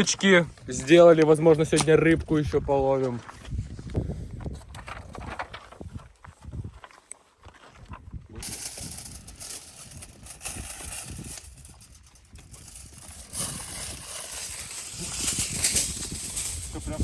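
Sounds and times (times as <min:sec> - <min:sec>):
wind buffeting microphone: 0:00.4 - 0:06.9, 0:07.7 - 0:17.0.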